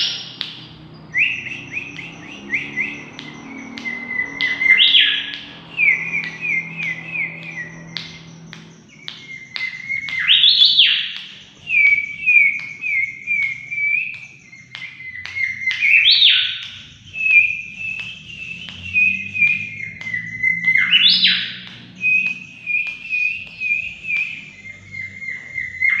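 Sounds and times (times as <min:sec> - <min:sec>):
bird whistling song: 0:00.0 - 0:26.0
upward sweeping whistle: 0:00.0 - 0:26.0.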